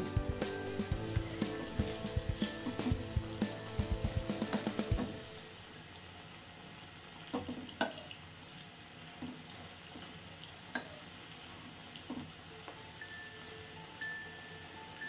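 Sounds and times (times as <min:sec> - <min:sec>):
fritters sizzling in oil: 0:00.1 - 0:14.8.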